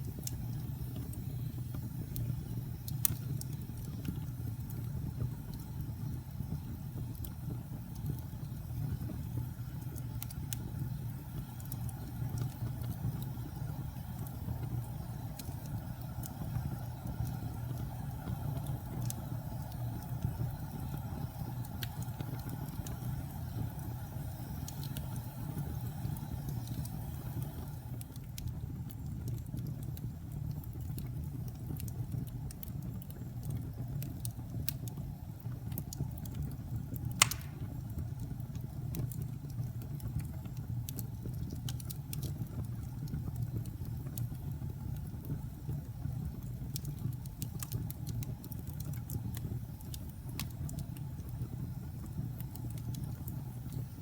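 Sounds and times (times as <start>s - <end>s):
fire crackling and popping: 0.0s - 54.0s
wood fire rumbling: 0.0s - 54.0s.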